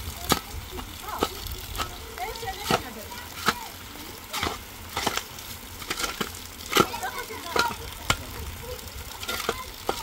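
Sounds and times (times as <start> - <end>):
steady rain falling: 0.0 - 10.0
shovel scraping wet stony soil: 0.2 - 8.3.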